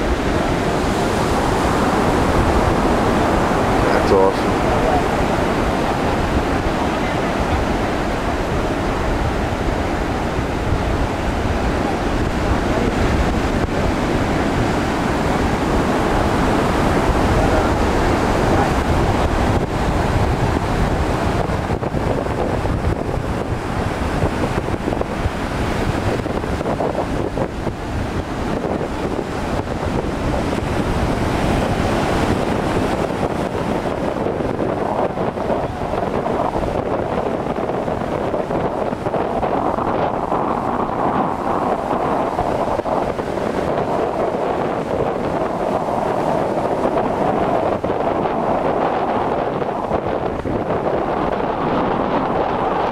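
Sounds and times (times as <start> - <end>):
ocean surf washing: 0.0 - 52.9
wind buffeting microphone: 0.0 - 52.9.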